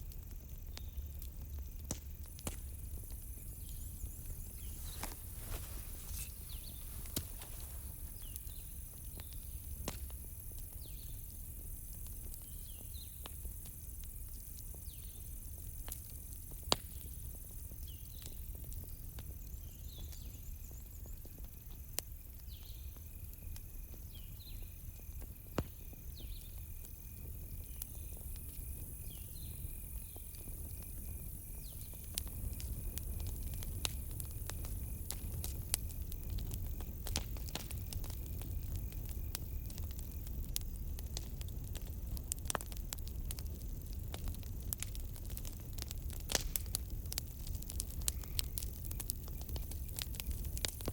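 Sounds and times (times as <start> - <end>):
campfire crackling and popping: 0.0 - 50.9
crickets trilling: 0.0 - 50.9.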